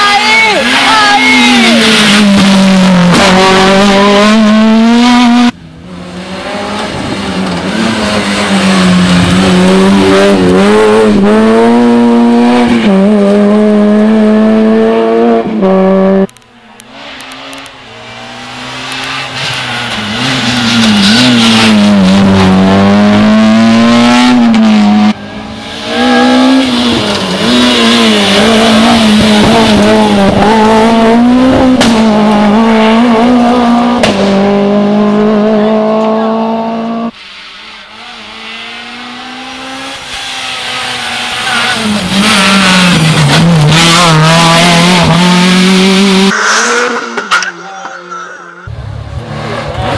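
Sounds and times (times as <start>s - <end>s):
rally cars passing at full throttle: 0.0s - 49.9s.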